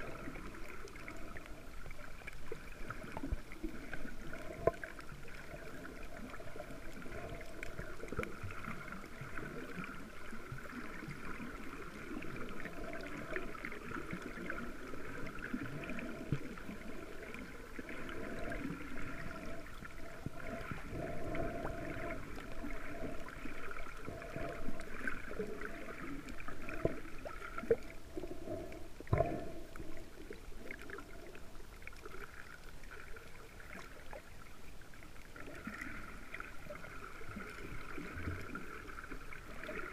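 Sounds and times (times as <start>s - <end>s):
muffled underwater water wash: 0.0s - 39.9s.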